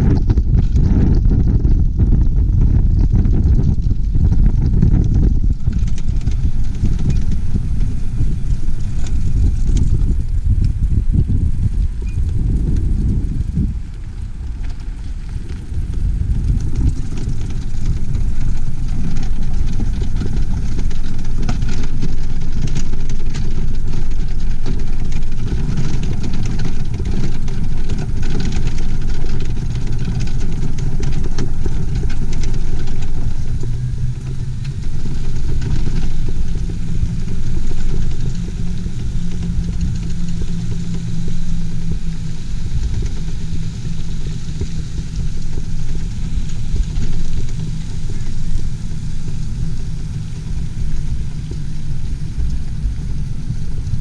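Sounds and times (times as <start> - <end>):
steady hum: 0.0 - 54.0
vehicle engine rumbling: 0.0 - 54.0.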